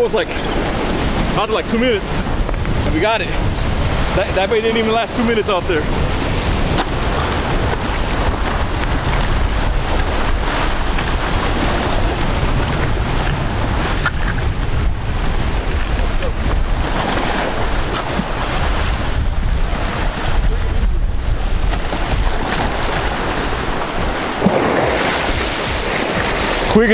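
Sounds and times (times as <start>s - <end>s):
ocean surf: 0.0s - 26.9s
wind buffeting microphone: 0.0s - 26.9s.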